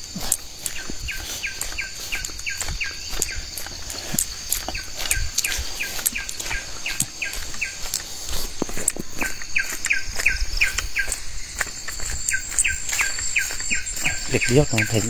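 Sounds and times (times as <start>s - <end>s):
footsteps on dirt path: 0.0s - 15.0s
high drone of insects: 0.0s - 15.0s.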